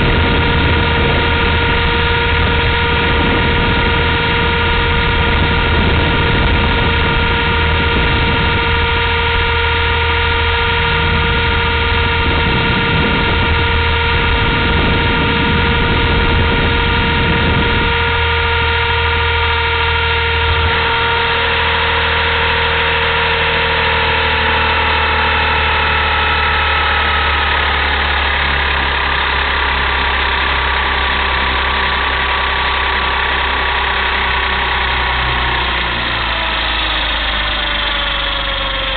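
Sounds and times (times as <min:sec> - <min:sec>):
low hum: 0:00.0 - 0:38.9
rc helicopter motor whine: 0:00.0 - 0:38.9.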